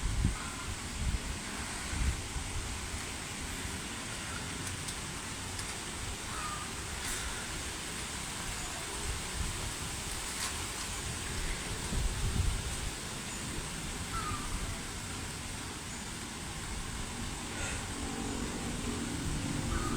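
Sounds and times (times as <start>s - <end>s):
strong wind on microphone: 0.0s - 4.3s, 6.0s - 19.9s.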